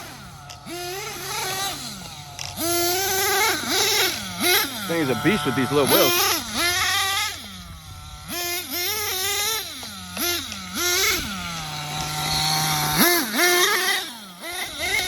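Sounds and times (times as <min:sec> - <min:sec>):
model engine revving: 0:00.0 - 0:15.0.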